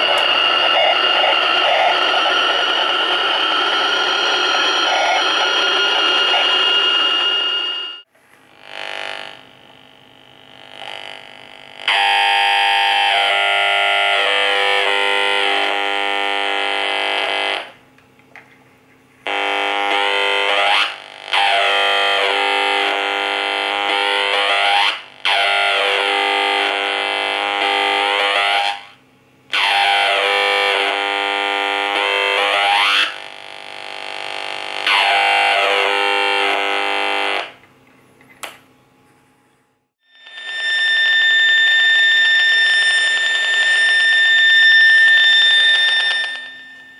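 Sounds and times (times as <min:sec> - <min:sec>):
radio interference buzz: 0:00.0 - 0:17.8, 0:19.2 - 0:37.6, 0:40.1 - 0:46.9.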